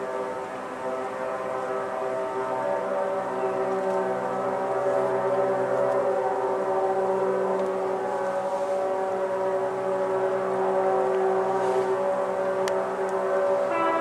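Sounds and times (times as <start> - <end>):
ship horns blasting: 0.0 - 14.0.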